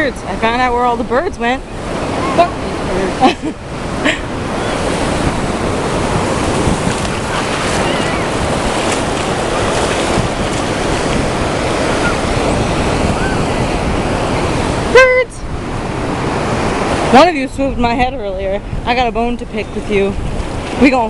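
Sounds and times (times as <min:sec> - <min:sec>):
ocean surf: 0:00.0 - 0:21.0
wind on microphone: 0:00.0 - 0:21.0.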